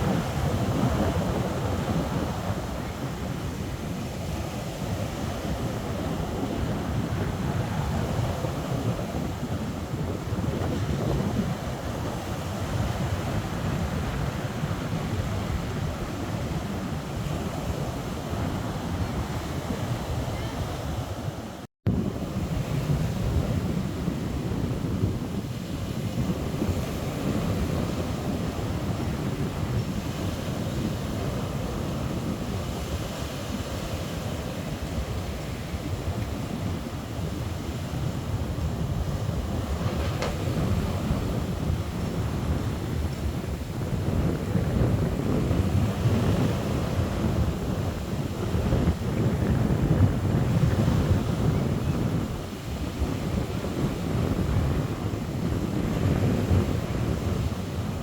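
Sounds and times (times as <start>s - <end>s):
waves washing: 0.0s - 58.0s
wind buffeting microphone: 0.0s - 58.0s.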